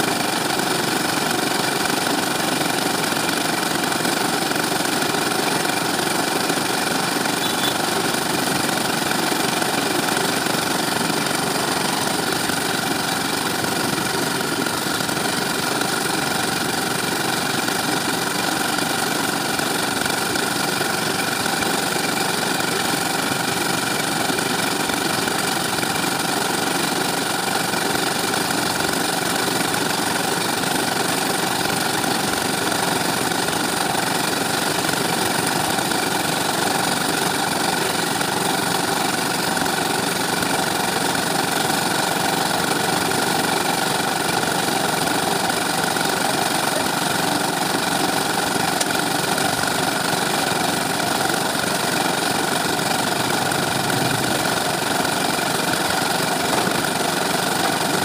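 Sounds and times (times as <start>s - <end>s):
concrete mixer engine running: 0.0s - 58.0s.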